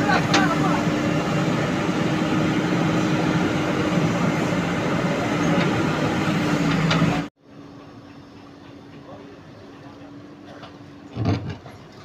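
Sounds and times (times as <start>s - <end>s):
diesel engine running: 0.0s - 11.3s.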